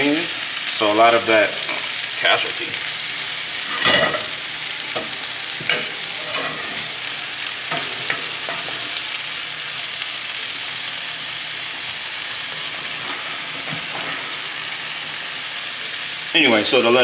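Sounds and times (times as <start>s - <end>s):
spinach sizzling in a frying pan: 0.0s - 17.0s.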